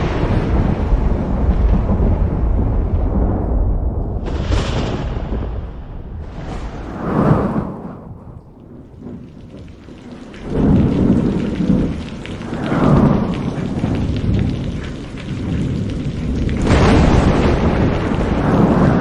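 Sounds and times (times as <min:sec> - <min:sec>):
rolling thunder: 0:00.0 - 0:19.0
steady rain: 0:00.0 - 0:19.0.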